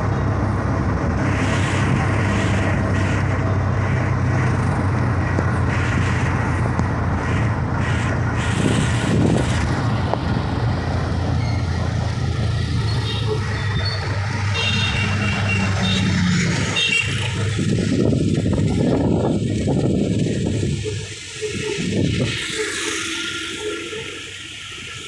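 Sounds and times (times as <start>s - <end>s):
road noise: 0.0s - 25.0s
vehicle engine drone: 0.0s - 25.0s.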